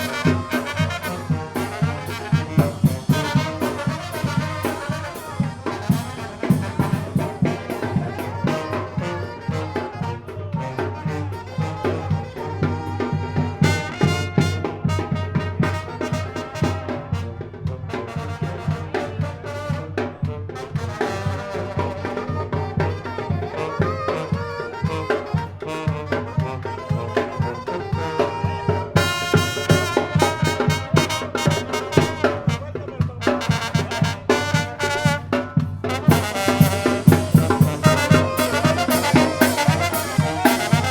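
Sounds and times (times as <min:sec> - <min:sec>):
bass drum and cymbal beat: 0:00.0 - 0:26.7, 0:27.4 - 0:40.9
trumpets and trombones: 0:00.0 - 0:40.9.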